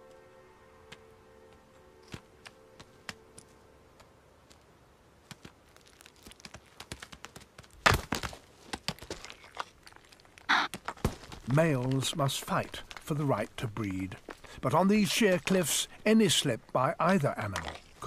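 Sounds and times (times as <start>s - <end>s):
hooves clicking on stone: 2.0s - 18.0s.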